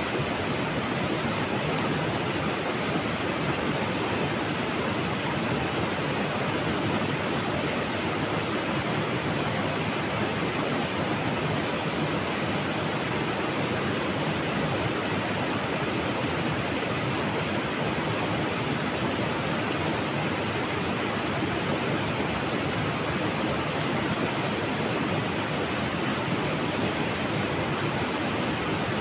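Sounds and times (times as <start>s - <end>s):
river flowing over rocks: 0.0s - 29.0s.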